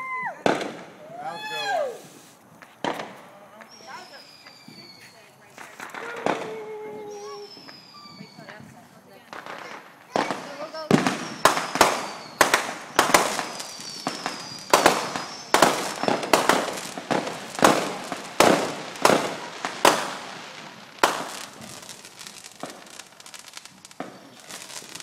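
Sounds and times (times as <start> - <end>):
fireworks bangs: 0.0 - 25.0
fireworks crackling: 0.0 - 25.0
high whistles: 3.6 - 25.0.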